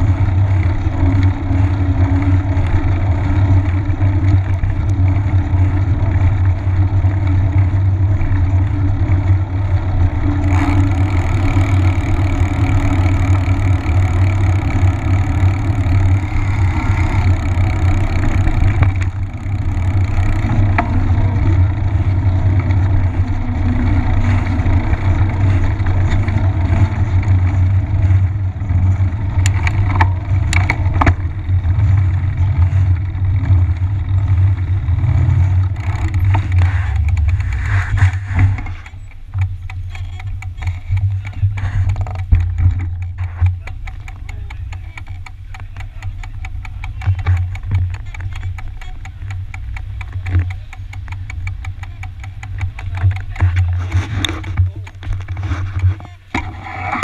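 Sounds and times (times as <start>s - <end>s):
bike clicks: 0.0s - 57.0s
bike tyres rumbling on pavement: 0.0s - 57.0s.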